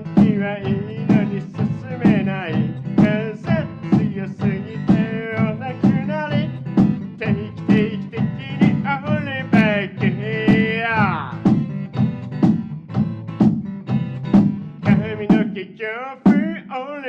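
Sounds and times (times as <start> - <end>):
man singing: 0.0 - 11.5, 14.8 - 17.0
guitar: 0.0 - 17.0
hand-struck box percussion: 0.1 - 15.6, 16.3 - 16.6.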